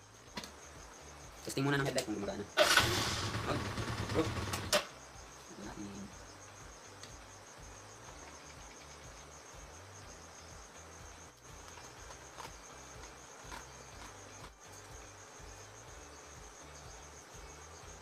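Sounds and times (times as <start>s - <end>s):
high-pitched insect trill: 0.0s - 18.0s.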